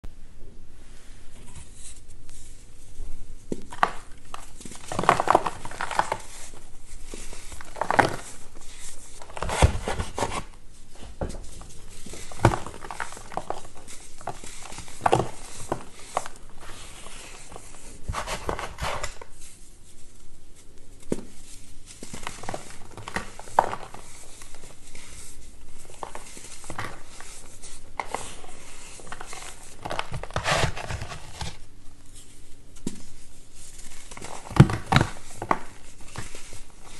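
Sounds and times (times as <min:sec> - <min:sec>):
powder crumbling: 0:03.5 - 0:19.6, 0:21.1 - 0:31.7, 0:33.7 - 0:36.9.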